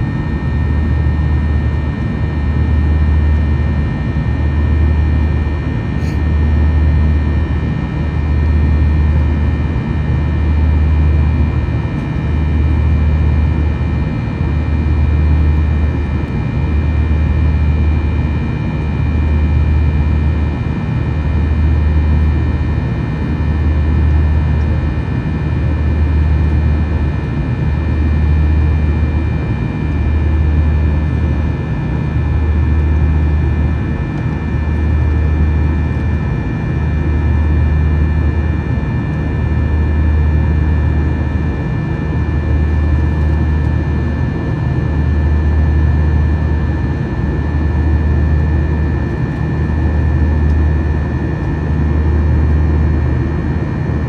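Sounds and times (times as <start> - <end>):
jet engine cabin drone: 0.0 - 54.0.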